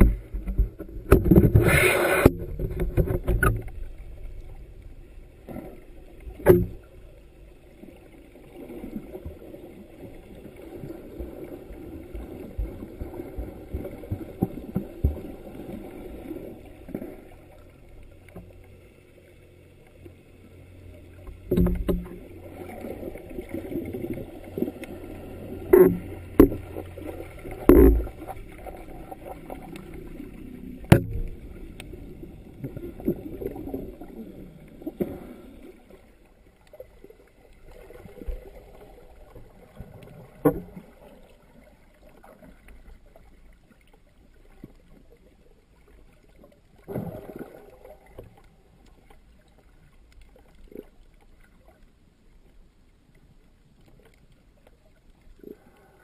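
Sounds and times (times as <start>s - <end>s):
muffled underwater sloshing: 0.0s - 56.0s.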